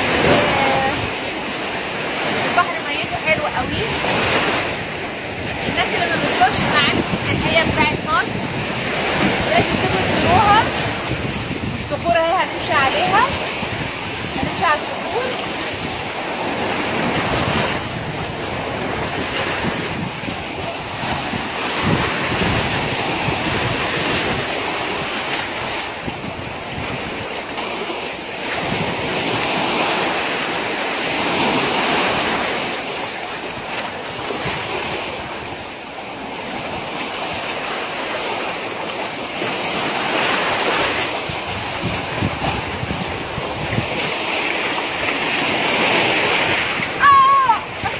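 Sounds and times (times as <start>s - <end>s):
sea waves on rocky shore: 0.0s - 47.9s
wind buffeting microphone: 0.0s - 47.9s.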